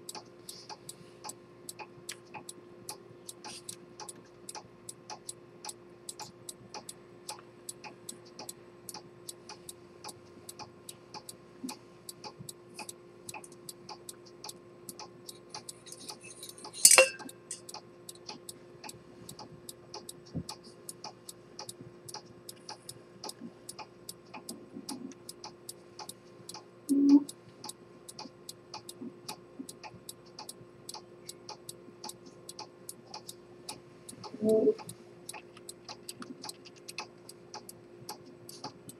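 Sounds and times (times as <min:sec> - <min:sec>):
pocket watch ticking: 0:00.0 - 0:38.9.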